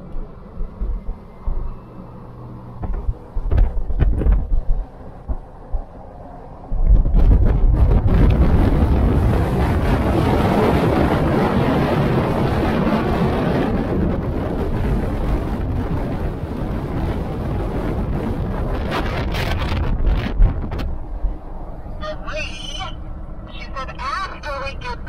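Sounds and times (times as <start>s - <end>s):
wind buffeting microphone: 0.0s - 23.8s
low rumble of vehicle on road: 0.0s - 25.0s.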